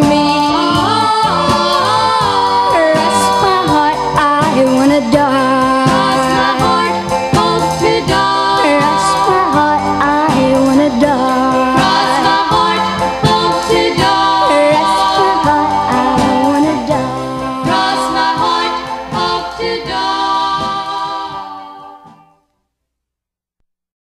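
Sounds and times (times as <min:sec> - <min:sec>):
women singing pop song: 0:00.0 - 0:22.3.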